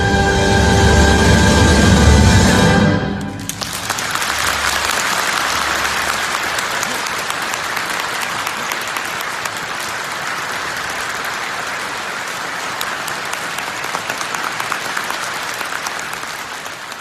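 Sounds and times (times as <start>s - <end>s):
audience applauding: 3.2s - 17.0s.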